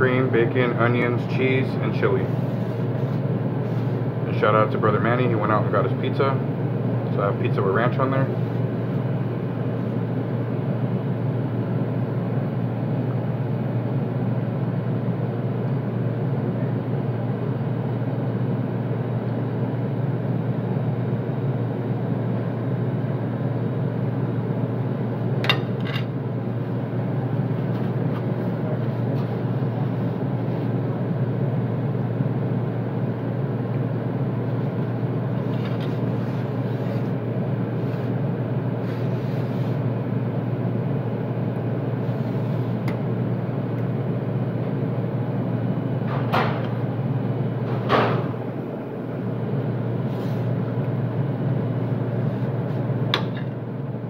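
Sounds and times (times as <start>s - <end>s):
kitchen machinery humming: 0.0s - 54.0s.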